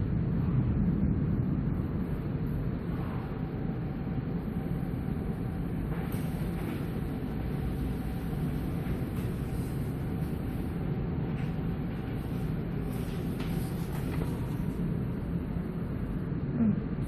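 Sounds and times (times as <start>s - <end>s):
faint whine: 0.0s - 17.0s
machinery humming: 0.0s - 17.0s.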